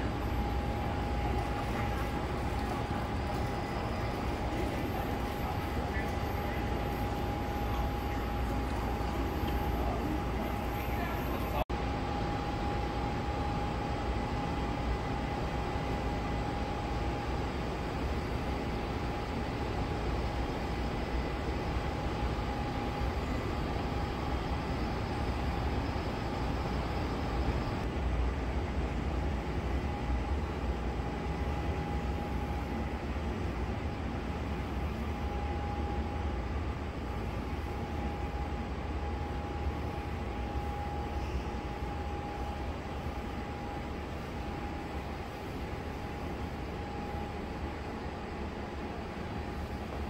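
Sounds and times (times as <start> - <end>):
airliner cabin rumble: 0.0 - 50.0
steady engine whine: 0.0 - 50.0.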